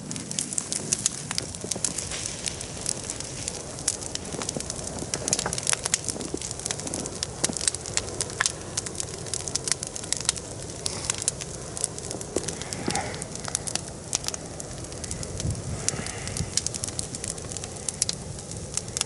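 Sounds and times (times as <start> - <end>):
bonfire crackling and popping: 0.0 - 19.0
low rush of flames: 0.0 - 19.0.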